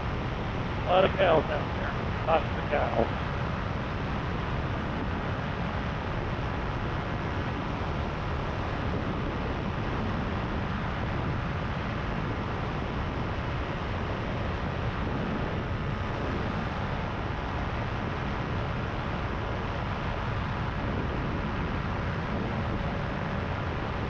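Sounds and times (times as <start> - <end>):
paramotor engine drone: 0.0 - 24.0.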